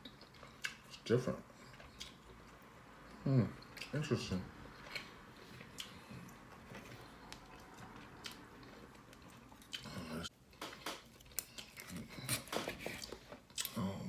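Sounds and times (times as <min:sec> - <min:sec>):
chewing steak: 0:00.0 - 0:10.3, 0:11.1 - 0:13.8.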